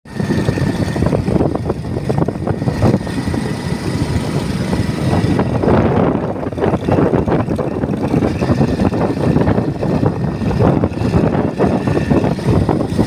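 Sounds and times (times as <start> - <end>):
motorcycle engine running: 0.1 - 13.0
road rumble: 0.1 - 13.0.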